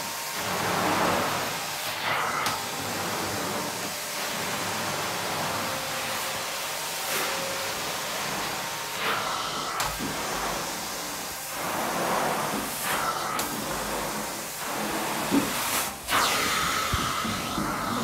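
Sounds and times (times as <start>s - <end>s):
carpet cleaner suction hiss: 0.0s - 18.0s.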